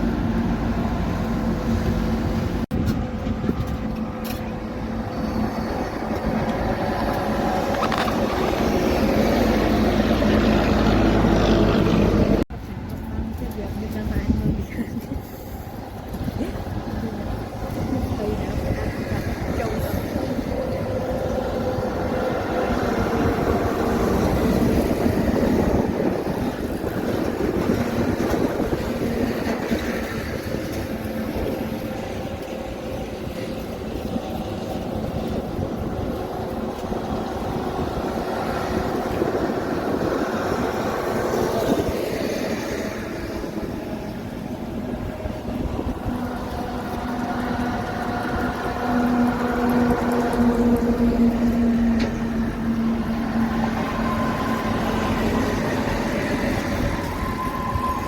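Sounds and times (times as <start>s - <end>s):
heavy trucks driving past: 0.0s - 58.0s.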